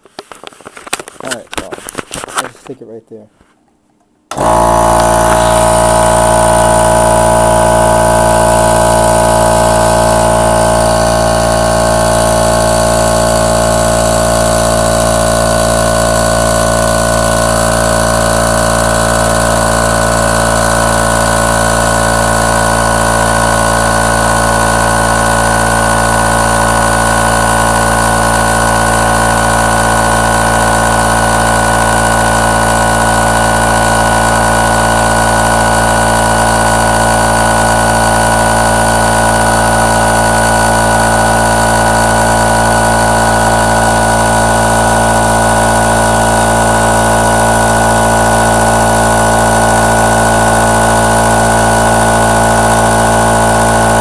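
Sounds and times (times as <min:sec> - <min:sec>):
air compressor running: 0:04.3 - 0:54.0.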